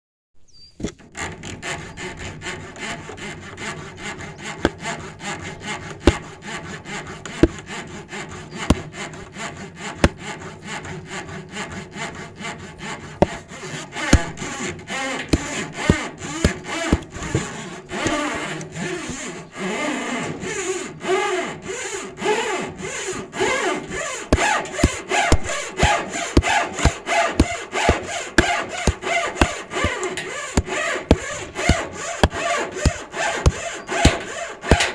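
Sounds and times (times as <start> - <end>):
saw cutting through wood: 0.9 - 34.9.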